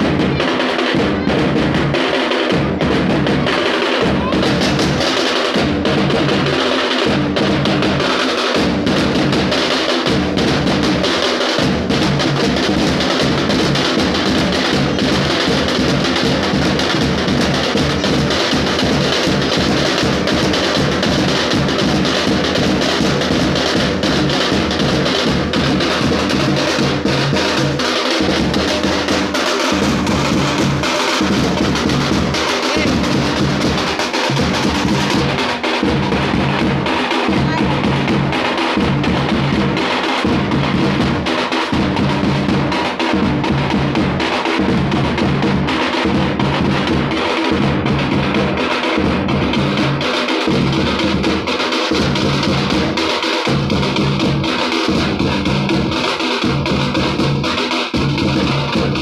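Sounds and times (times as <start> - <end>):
group of drummers playing: 0.0 - 59.0.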